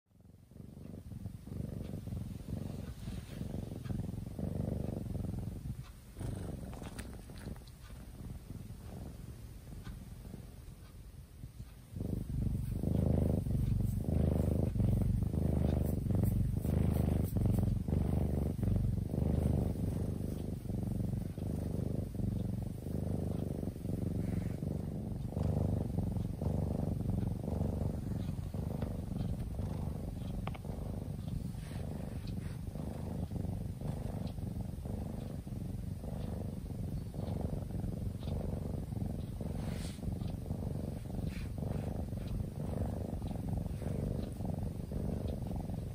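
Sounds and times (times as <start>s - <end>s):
kitten purring: 0.1s - 45.9s.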